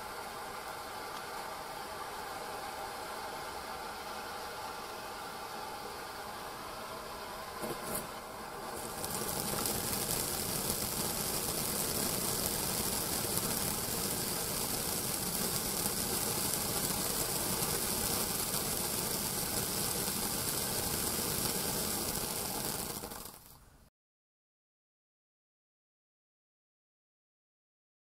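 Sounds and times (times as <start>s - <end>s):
firework fountain hissing: 0.0s - 23.9s.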